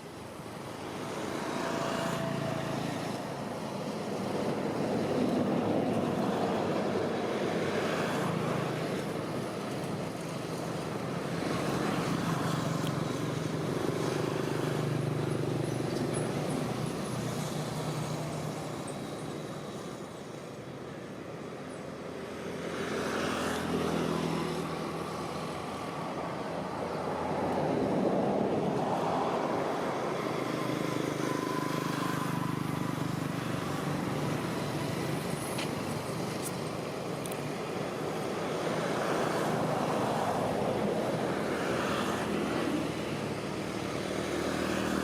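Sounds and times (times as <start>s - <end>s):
vehicles passing: 0.0s - 45.0s.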